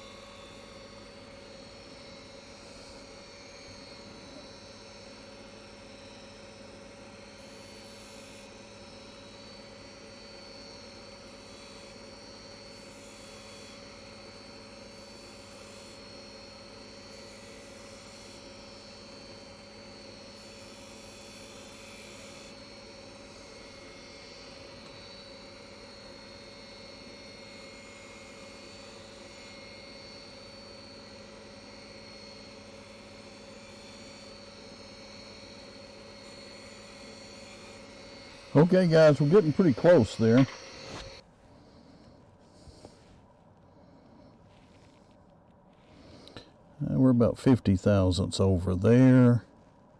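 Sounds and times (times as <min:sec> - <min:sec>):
wood lathe motor hum: 0:00.0 - 0:47.1.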